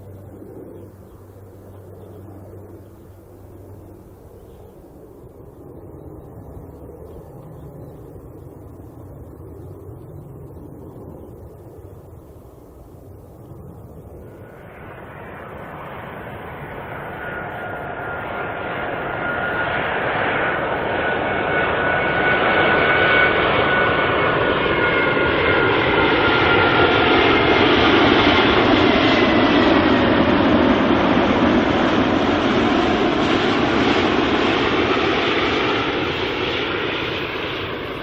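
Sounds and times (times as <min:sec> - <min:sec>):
high turbine whine: 0:00.0 - 0:38.0
jet airliner engine noise: 0:00.0 - 0:38.0.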